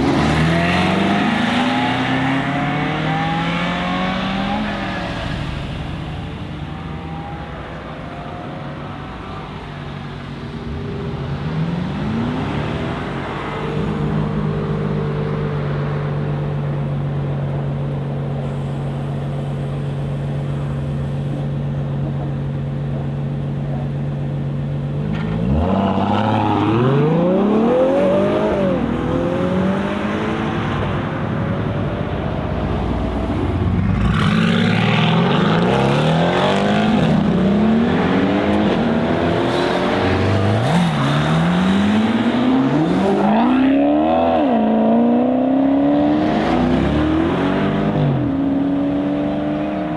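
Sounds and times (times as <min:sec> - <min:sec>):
sports car engines accelerating: 0:00.0 - 0:49.9.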